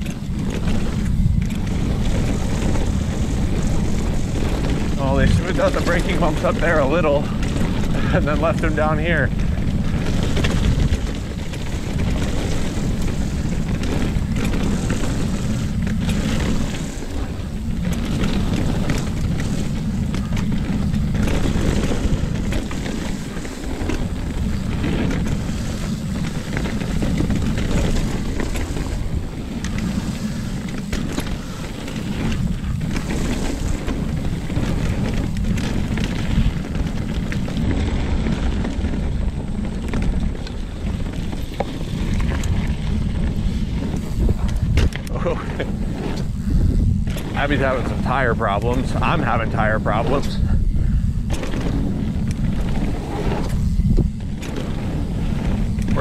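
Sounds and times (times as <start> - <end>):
bike knocking and clattering: 0.0 - 56.0
bike tyres on dirt: 0.0 - 56.0
wind rushing over microphone: 0.0 - 56.0.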